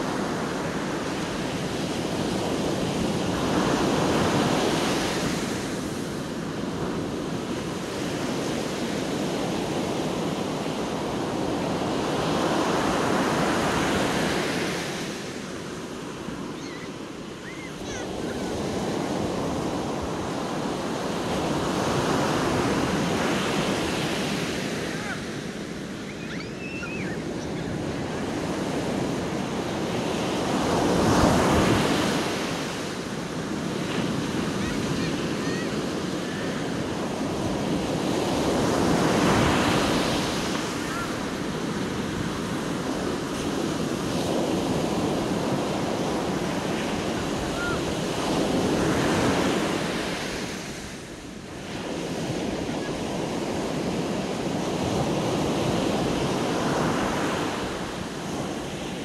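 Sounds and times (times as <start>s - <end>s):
sea surf washing up a beach: 0.0s - 59.0s.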